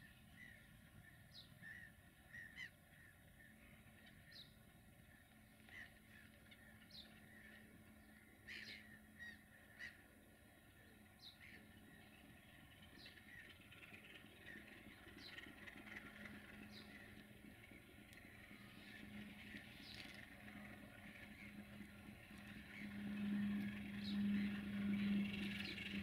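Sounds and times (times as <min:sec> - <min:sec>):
diesel locomotive hum: 0:00.0 - 0:26.0.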